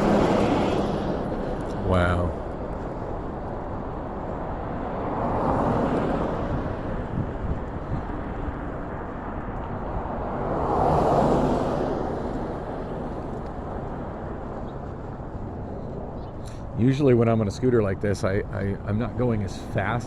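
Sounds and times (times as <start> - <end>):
steady traffic rumble: 0.0 - 20.0
vehicles passing: 0.0 - 20.0.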